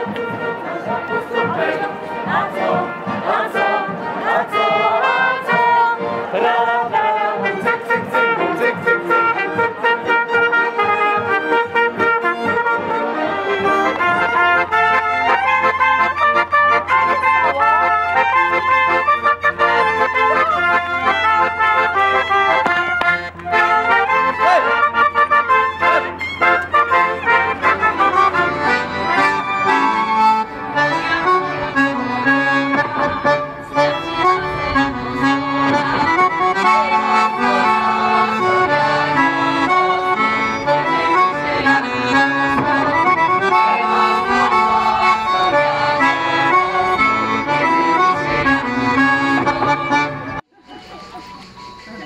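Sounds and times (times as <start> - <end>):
accordion folk dance music: 0.0 - 52.0.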